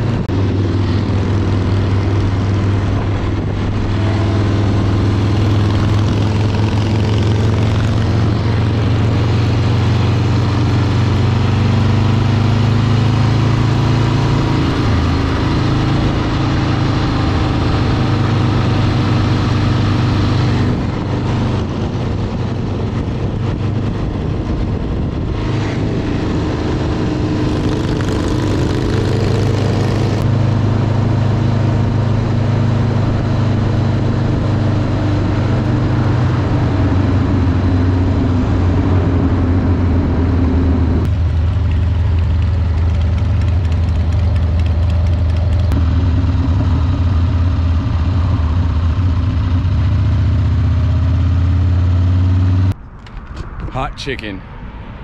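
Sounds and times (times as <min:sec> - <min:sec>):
motorcycle engine running: 0:00.0 - 0:52.8.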